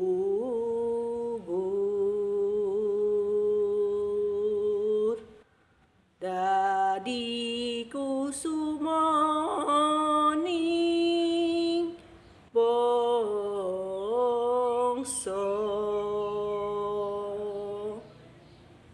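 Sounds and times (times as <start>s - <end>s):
woman singing unaccompanied: 0.0s - 5.4s, 6.2s - 18.9s.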